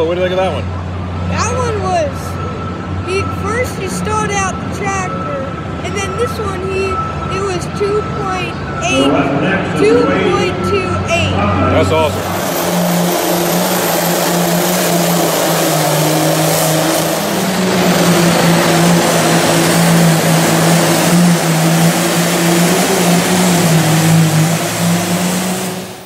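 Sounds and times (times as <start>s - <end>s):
tractor engine roaring: 0.0s - 26.0s.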